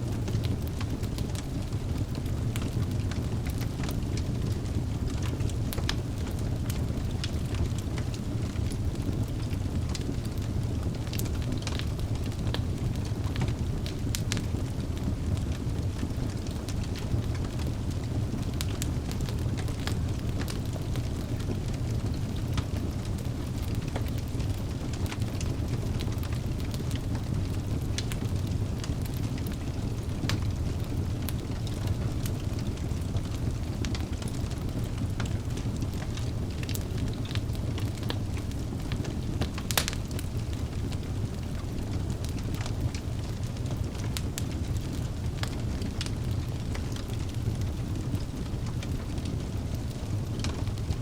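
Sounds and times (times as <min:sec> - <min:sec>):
fire low rumble: 0:00.0 - 0:51.0
wood fire crackles and pops: 0:00.0 - 0:51.0.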